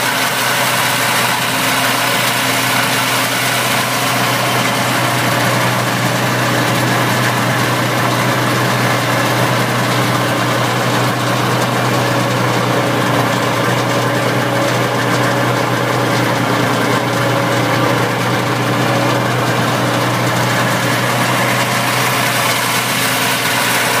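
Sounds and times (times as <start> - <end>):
snowmobile engine idling: 0.0 - 24.0.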